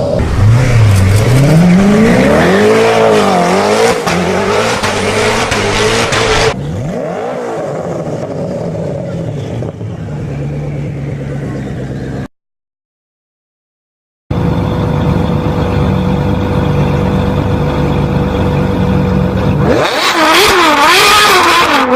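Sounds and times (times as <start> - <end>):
car engine revving: 0.0 - 12.2, 14.3 - 21.9.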